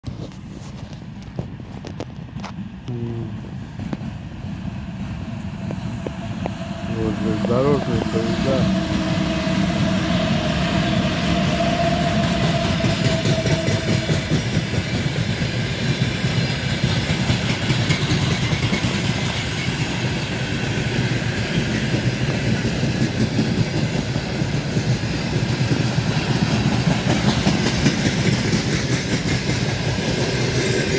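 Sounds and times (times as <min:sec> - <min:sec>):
train wheels clattering on rails: 0:03.5 - 0:30.9.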